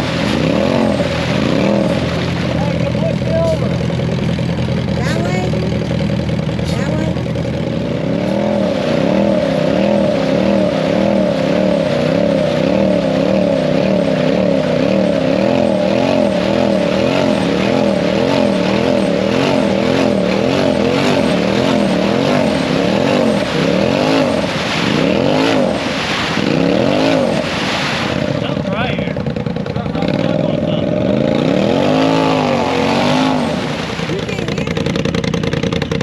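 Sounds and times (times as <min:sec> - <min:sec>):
utv engine revving: 0:00.0 - 0:36.0
wheels spinning in mud: 0:00.0 - 0:36.0.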